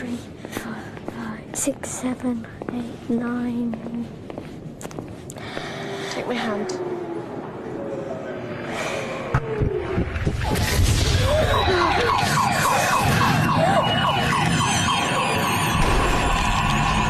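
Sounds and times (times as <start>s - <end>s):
distorted shopping centre noise: 0.0s - 17.0s.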